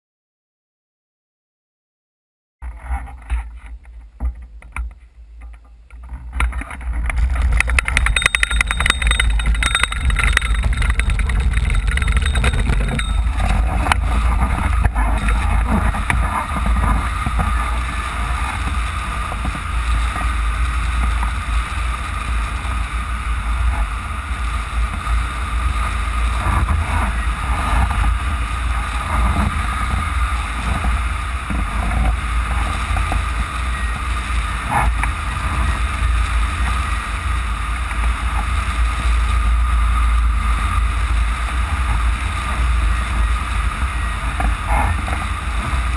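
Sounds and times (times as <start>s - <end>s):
wind buffeting microphone: 6.0s - 45.9s.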